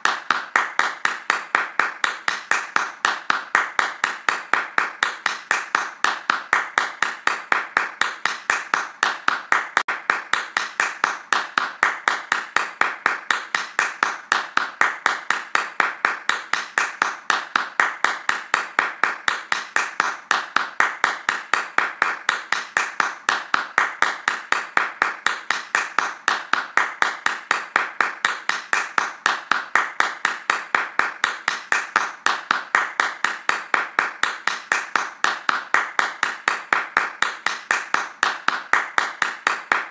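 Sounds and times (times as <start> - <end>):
hands clapping fast: 0.0 - 39.9.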